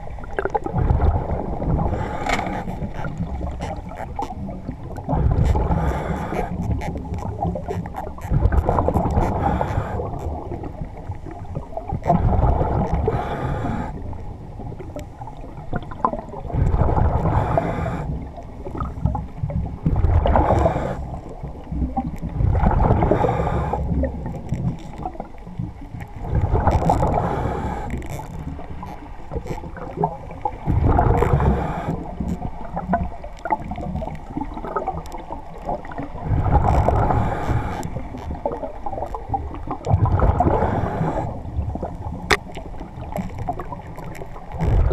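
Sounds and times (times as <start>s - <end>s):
muffled underwater water noise: 0.0s - 44.9s.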